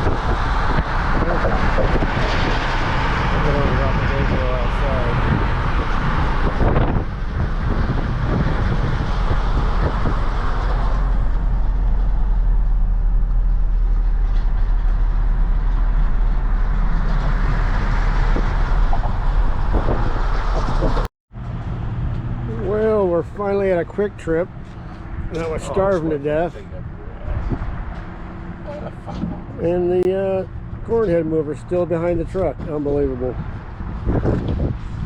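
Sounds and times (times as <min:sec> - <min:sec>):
road and wind noise: 0:00.0 - 0:35.0
truck engine drone: 0:00.0 - 0:35.0.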